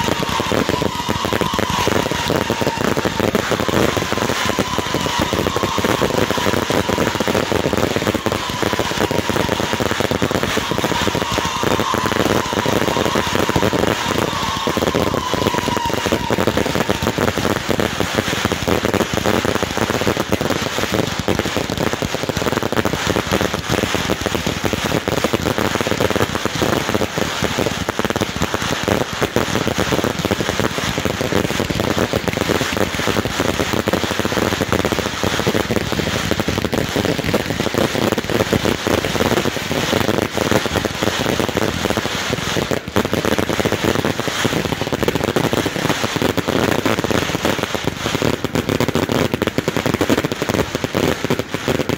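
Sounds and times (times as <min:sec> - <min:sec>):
fireworks crackling: 0:00.0 - 0:51.9.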